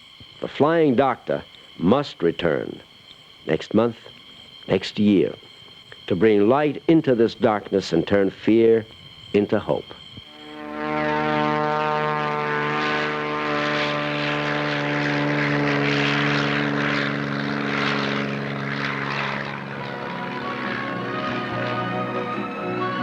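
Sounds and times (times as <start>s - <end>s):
propeller airplane engine drone: 0.0s - 23.0s.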